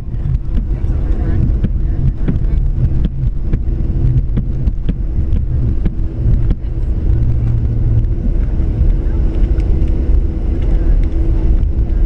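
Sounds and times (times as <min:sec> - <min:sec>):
low rumble of engines and wheels: 0:00.0 - 0:12.0.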